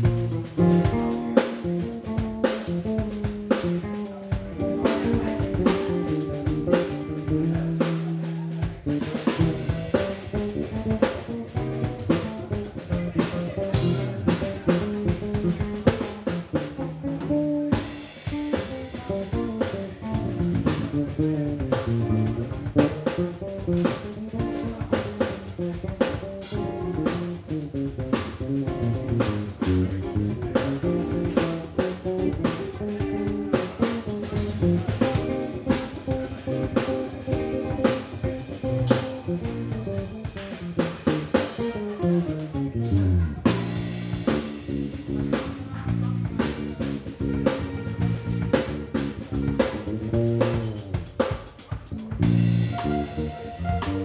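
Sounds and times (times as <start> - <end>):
drum kit beat: 0.0 - 54.0
electric guitar: 0.0 - 54.0
live instrumental band: 0.0 - 54.0.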